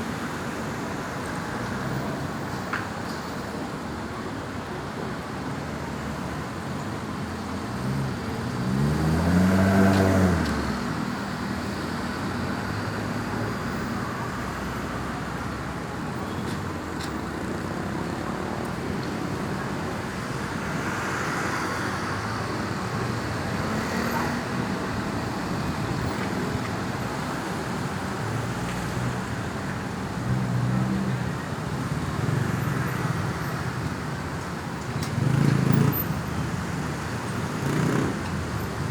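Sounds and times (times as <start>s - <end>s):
road traffic going by: 0.0s - 38.9s.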